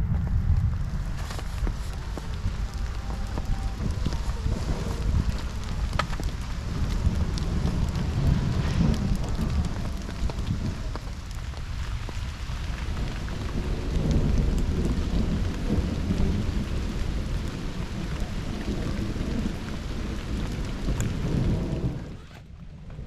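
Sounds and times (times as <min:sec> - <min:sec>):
rolling thunder: 0:00.0 - 0:22.2
steady rain: 0:00.0 - 0:23.0.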